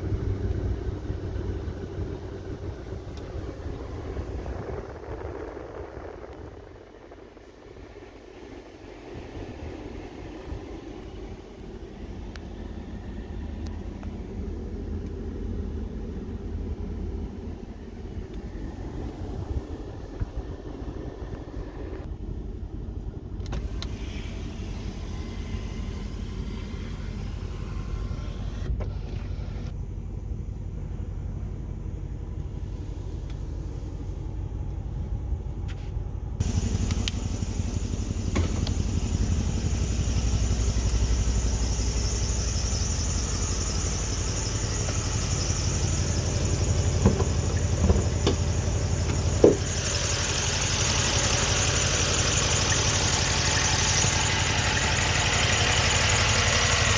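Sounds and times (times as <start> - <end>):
car engine idling: 0.0 - 28.7, 29.3 - 56.9.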